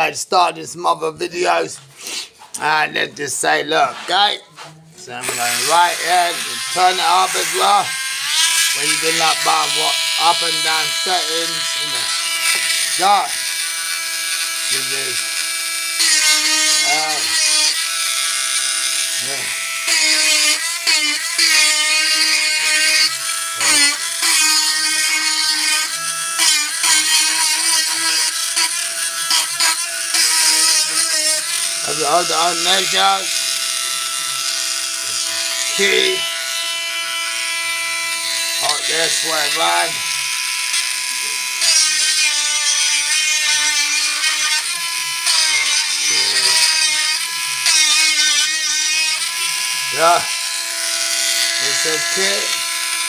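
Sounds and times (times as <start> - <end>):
engraving pen whining on wood: 4.0 - 53.0.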